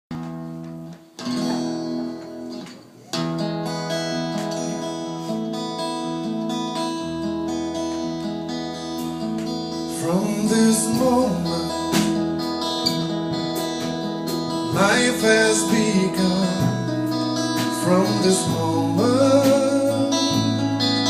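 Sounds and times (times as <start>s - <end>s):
acoustic guitar strumming chords: 0.1s - 21.0s.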